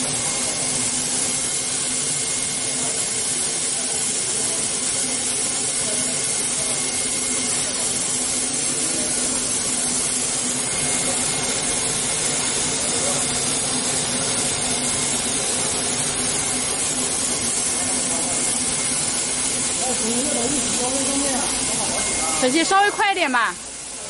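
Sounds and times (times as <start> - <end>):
machine hissing and whining: 0.0 - 24.0.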